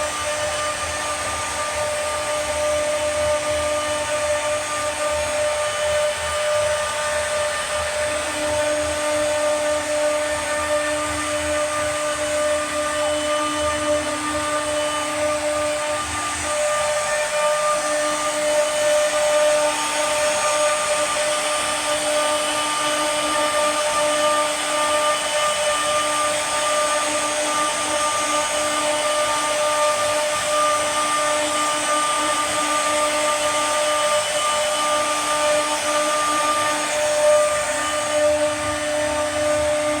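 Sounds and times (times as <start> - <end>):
router spindle whine: 0.0 - 40.0.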